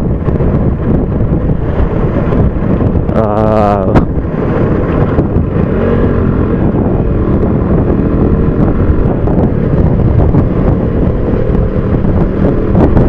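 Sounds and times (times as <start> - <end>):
faint motorcycle engine: 0.0 - 13.0
wind buffeting microphone: 0.0 - 13.0.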